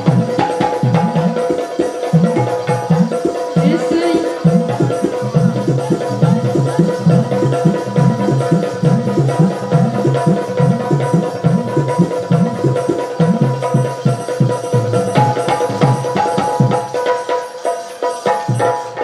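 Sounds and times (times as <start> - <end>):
hand drums beating fast rhythm: 0.0 - 19.0.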